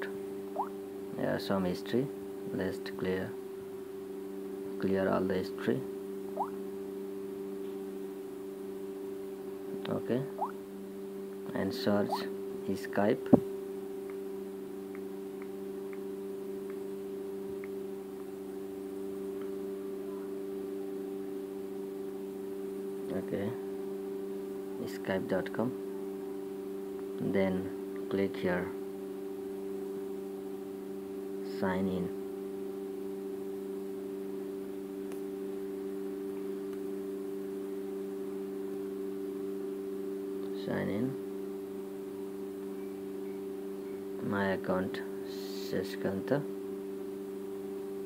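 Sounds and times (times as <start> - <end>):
steady electrical hum: 0.0 - 48.0.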